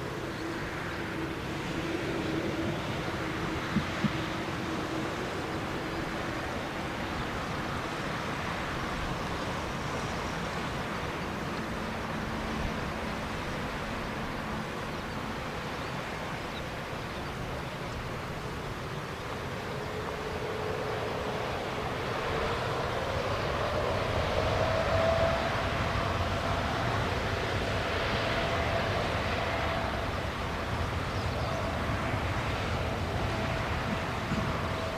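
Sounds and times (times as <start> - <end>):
jet engines humming: 0.0 - 34.9.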